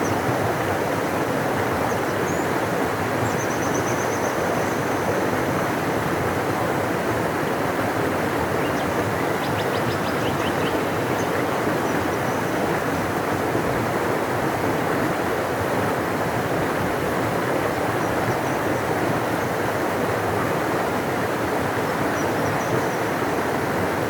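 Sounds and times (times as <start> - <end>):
river water rushing: 4.3 - 24.0.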